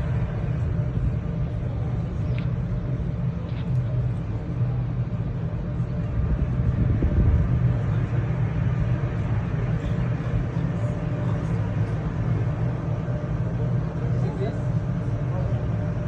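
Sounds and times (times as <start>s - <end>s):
ship engine hum: 0.0s - 16.0s.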